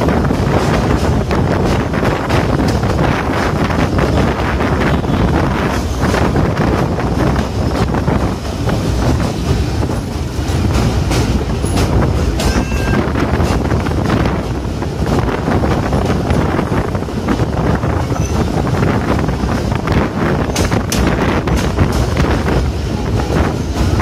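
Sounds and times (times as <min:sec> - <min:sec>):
rail clicks: 0:00.0 - 0:24.0
train wheels rumbling on rails: 0:00.0 - 0:24.0.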